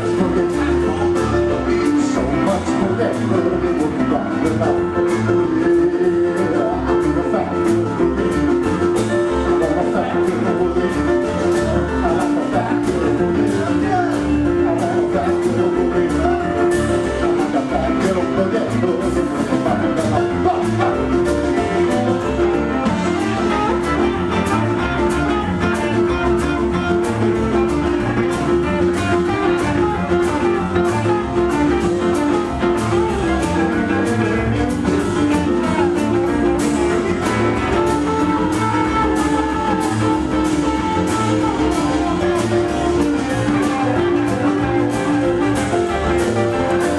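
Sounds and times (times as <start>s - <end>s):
piano-led boogie-woogie band: 0.0s - 46.9s.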